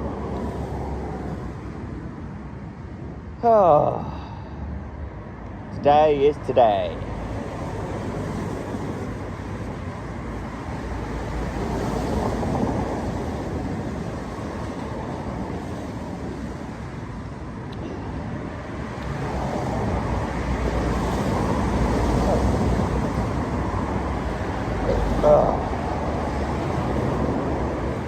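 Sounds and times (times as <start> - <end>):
cars passing on busy road: 0.0 - 28.0.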